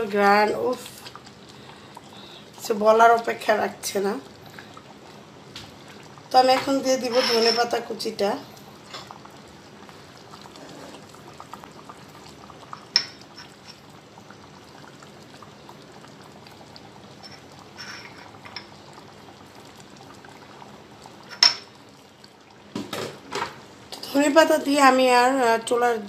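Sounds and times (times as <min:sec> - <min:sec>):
curry bubbling: 0:00.0 - 0:26.0.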